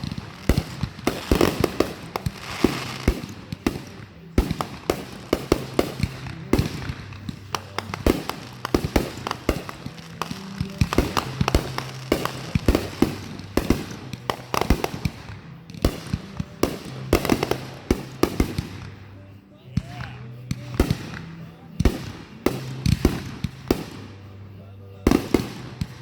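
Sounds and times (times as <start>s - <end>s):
fireworks bangs and pops: 0.0s - 19.2s, 19.8s - 24.4s, 25.0s - 26.0s
music playing: 0.0s - 26.0s.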